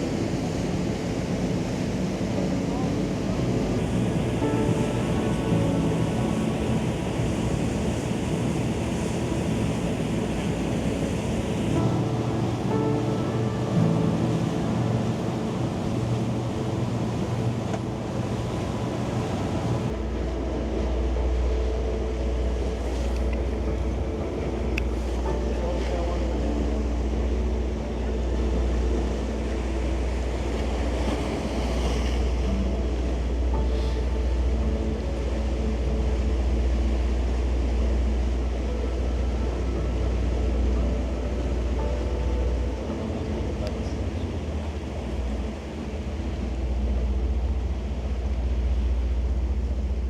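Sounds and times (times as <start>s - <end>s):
boat engines droning: 0.0s - 50.0s
water rushing past hull: 0.0s - 50.0s.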